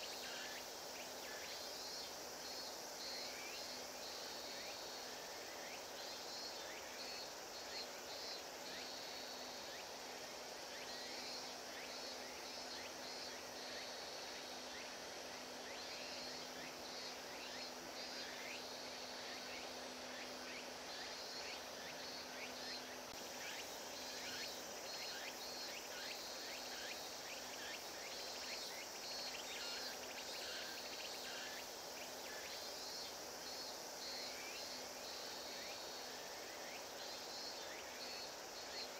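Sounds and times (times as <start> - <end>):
insects chirping in trills: 0.0 - 38.9.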